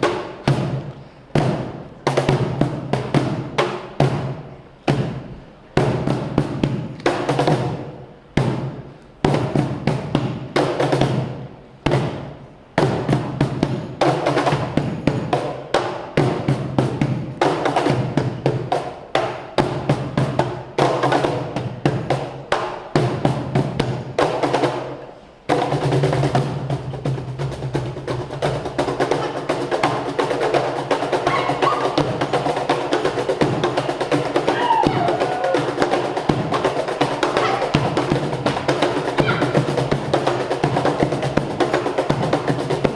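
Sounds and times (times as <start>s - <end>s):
music: 0.0s - 42.9s.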